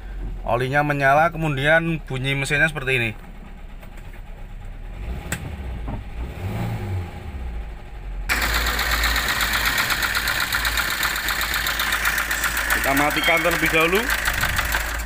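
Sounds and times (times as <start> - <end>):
car engine clattering: 0.0 - 15.0.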